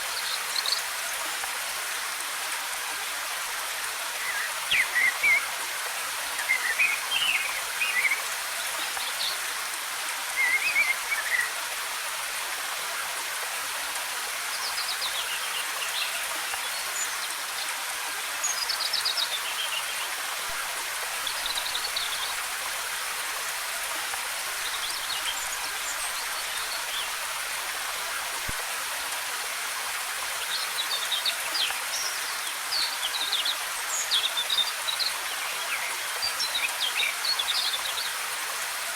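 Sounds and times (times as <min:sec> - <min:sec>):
waterfall hissing: 0:00.0 - 0:38.9.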